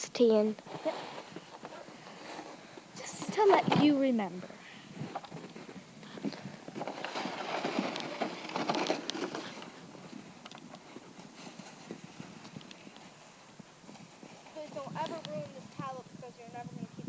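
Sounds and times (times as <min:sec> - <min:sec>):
crunching in snow: 0:00.6 - 0:15.9.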